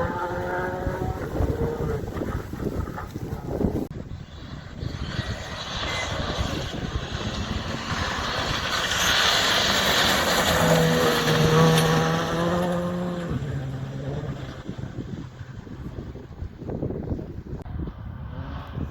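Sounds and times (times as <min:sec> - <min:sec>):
rally car engine passing: 0:00.0 - 0:16.6.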